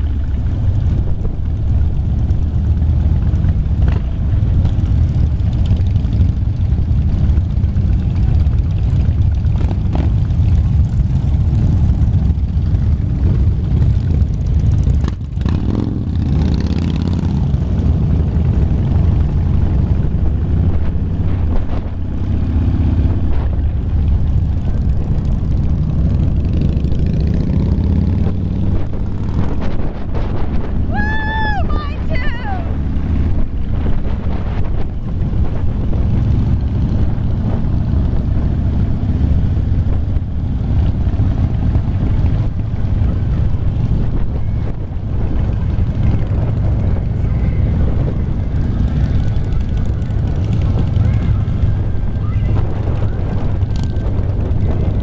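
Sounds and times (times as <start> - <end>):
motorcycle engine running: 0.0 - 55.0
other motorcycles riding nearby: 0.0 - 55.0.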